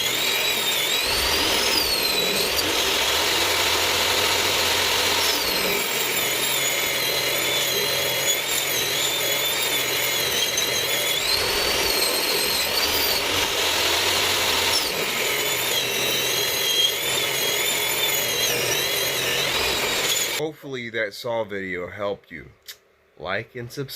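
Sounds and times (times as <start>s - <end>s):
table saw cutting wood: 0.0s - 20.4s.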